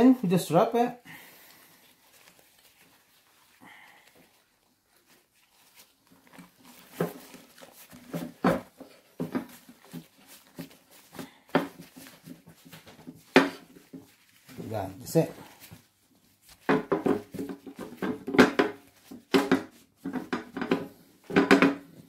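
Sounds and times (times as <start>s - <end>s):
gloved hands rolling a wrap: 0.0s - 22.0s.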